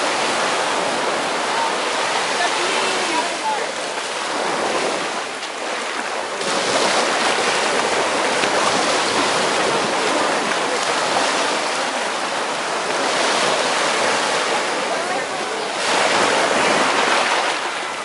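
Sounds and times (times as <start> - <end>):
ocean waves breaking on beach: 0.0 - 18.0.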